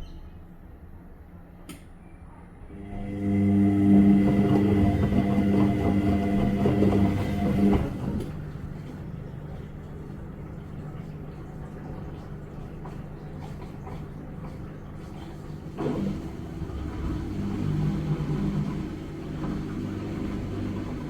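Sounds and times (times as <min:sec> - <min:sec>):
washing machine motor humming: 0:02.7 - 0:21.0.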